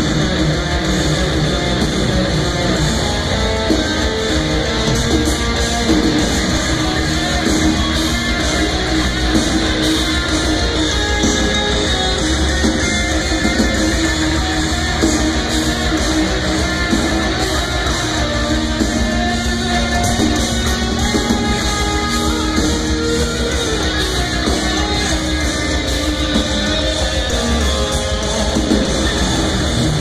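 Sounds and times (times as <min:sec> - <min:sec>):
distorted electric guitars: 0:00.0 - 0:30.0
drum kit: 0:00.0 - 0:30.0.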